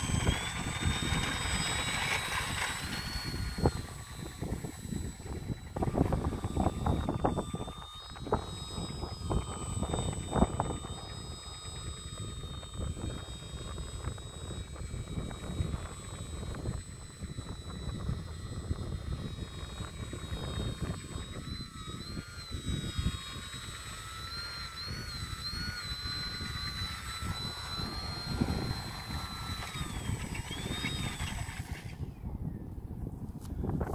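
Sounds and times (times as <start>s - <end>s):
small motor and propeller whining: 0.0s - 33.9s
wind buffeting microphone: 0.0s - 33.9s.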